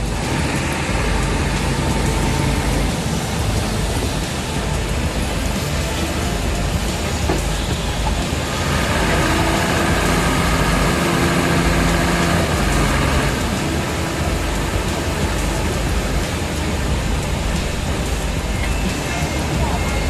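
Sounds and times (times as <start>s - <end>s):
engine rumbling: 0.0s - 20.0s
steady droning tone: 0.0s - 20.0s.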